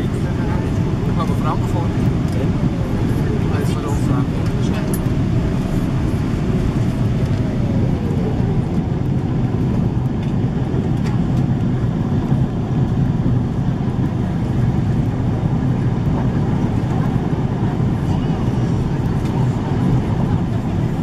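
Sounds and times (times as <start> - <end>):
airplane cabin airflow rush: 0.0 - 21.0.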